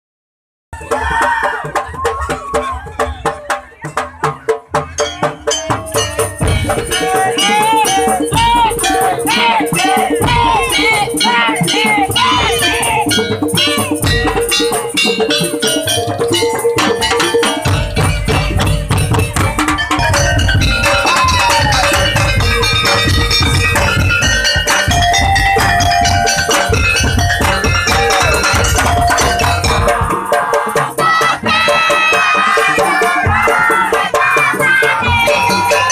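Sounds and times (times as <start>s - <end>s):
music with beat and melody: 3.2s - 35.9s
ringing bell-like tones: 3.8s - 35.9s
sharp percussion rattling: 3.8s - 35.9s.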